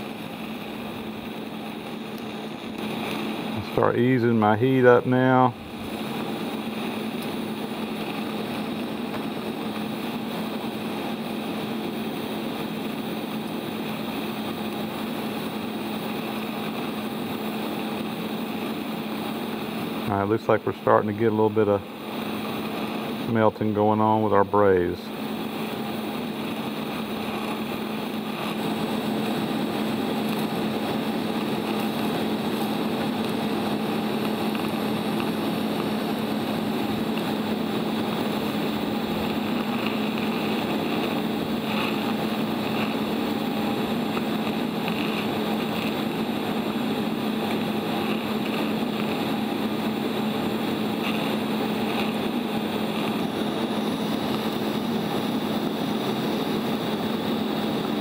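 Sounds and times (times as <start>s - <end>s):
welding arc buzzing: 0.0s - 58.0s.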